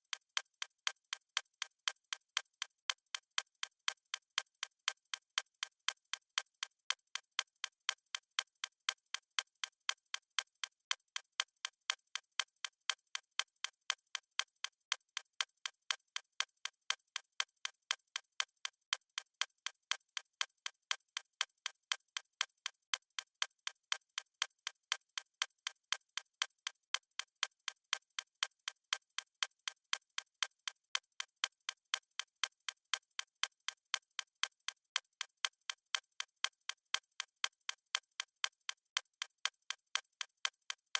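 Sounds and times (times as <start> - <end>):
stopwatch ticking: 0.0 - 40.9.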